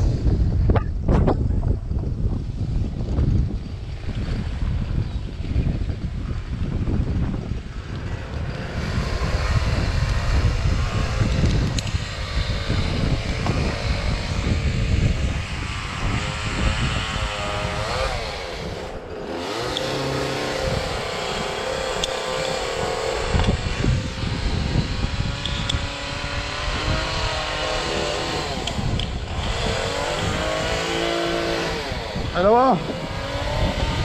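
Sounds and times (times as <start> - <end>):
wind buffeting microphone: 0.0 - 34.0
small engine revving: 5.6 - 34.0.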